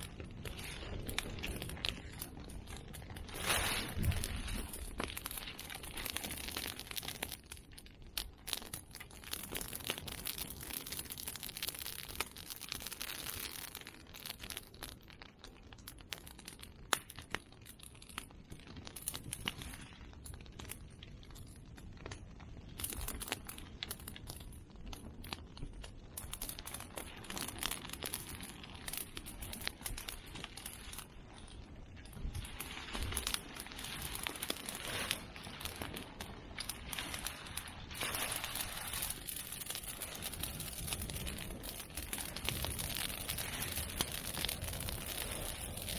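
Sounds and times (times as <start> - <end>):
bamboo popping in fire: 0.0 - 45.9
bonfire crackling: 0.0 - 45.9.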